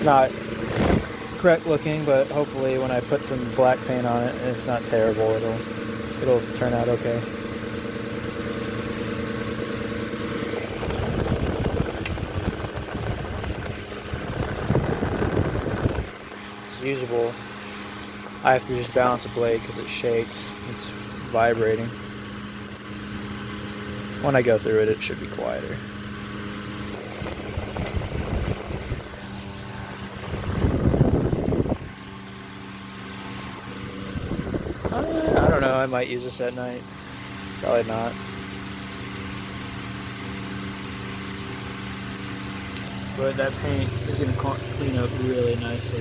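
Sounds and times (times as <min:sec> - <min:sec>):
fan rattling vibration: 0:00.0 - 0:46.0
table fan motor hum: 0:00.0 - 0:46.0.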